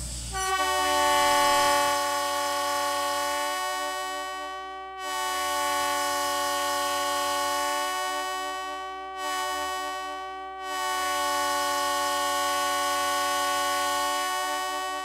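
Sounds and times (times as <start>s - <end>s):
locomotive horns sounding a chord: 0.0s - 15.0s.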